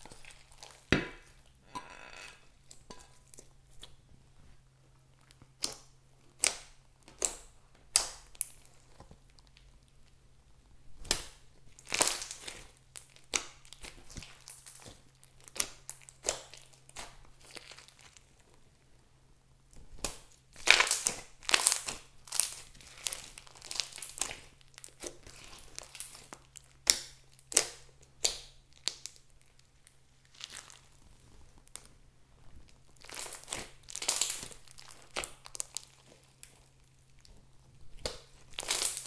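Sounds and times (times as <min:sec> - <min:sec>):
slime squelching and crackling: 0:00.0 - 0:01.6, 0:02.3 - 0:10.2, 0:10.9 - 0:18.6, 0:19.7 - 0:39.0.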